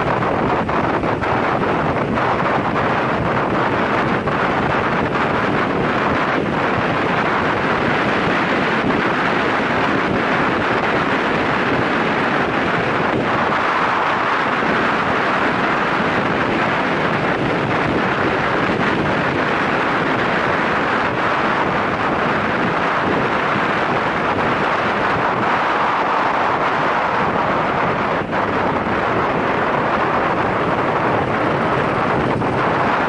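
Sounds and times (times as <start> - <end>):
road noise: 0.0 - 33.0
wind rushing over microphone: 0.0 - 33.0.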